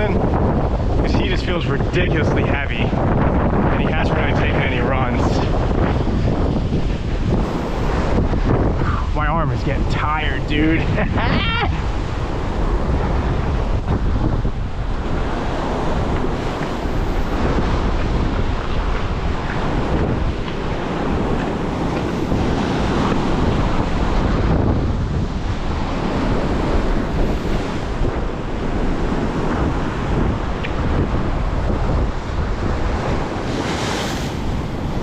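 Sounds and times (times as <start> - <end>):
surf breaking on shore: 0.0 - 35.0
wind buffeting the microphone: 0.0 - 35.0.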